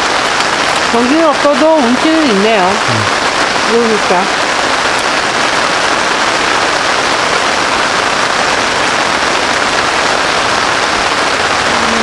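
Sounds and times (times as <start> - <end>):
rain on a fabric tarp: 0.0 - 12.0.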